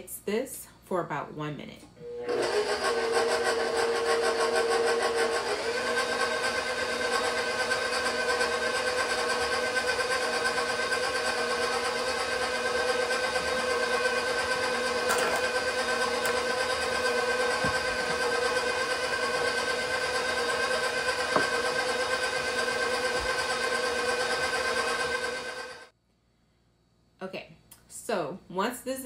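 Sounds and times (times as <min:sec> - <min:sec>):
stand mixer motor whine: 0:02.0 - 0:25.9.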